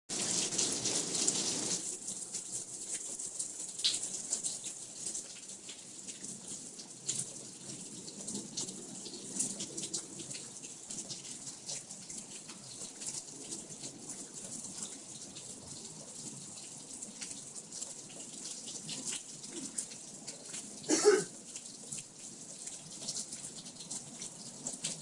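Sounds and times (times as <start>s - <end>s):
rain falling: 0.1s - 25.0s.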